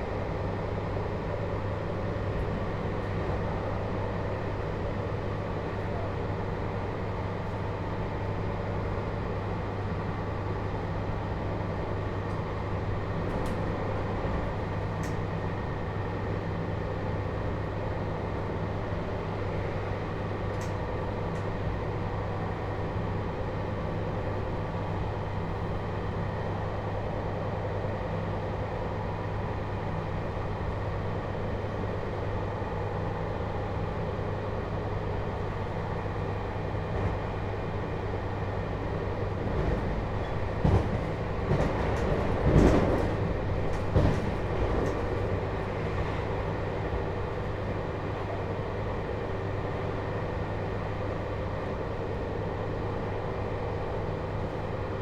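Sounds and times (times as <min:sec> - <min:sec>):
train interior rumble and hum: 0:00.0 - 0:55.0.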